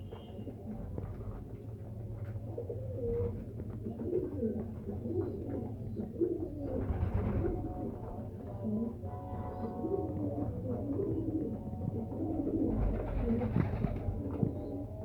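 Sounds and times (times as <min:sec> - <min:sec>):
pigeons cooing: 0:02.4 - 0:15.0.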